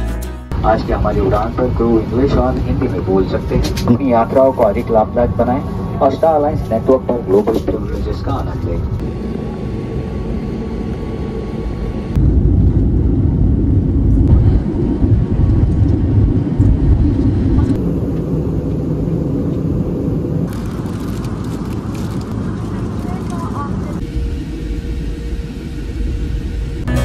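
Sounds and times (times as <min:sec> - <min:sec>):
jet engines and airflow rumble: 0:00.5 - 0:27.0.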